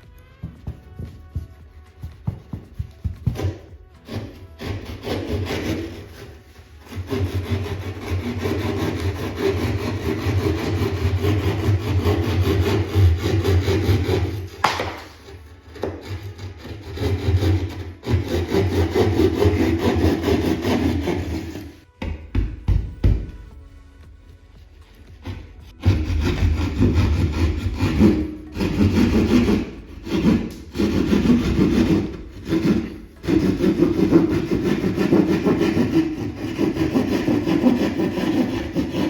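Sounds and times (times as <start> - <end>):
saw cutting drywall: 0.0 - 21.9, 25.2 - 39.0.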